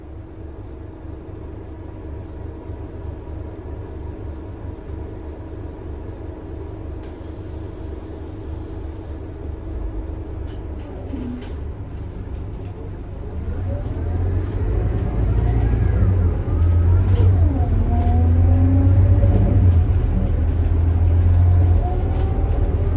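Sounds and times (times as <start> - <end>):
bus diesel engine running: 0.0 - 22.9.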